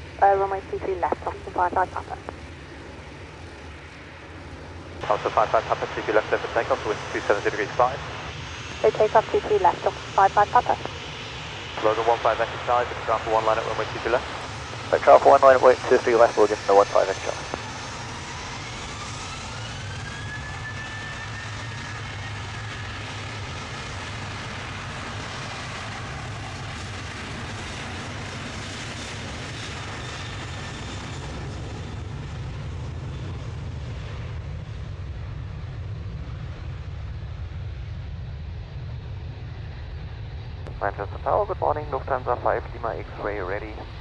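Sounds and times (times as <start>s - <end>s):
jet engines whining: 0.0s - 44.0s
low jet rumble: 0.0s - 44.0s.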